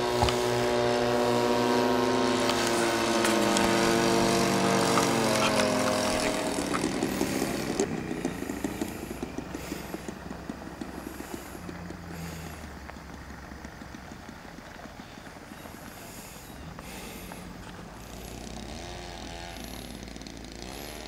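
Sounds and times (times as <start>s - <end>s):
model aeroplane engine: 0.0s - 21.0s.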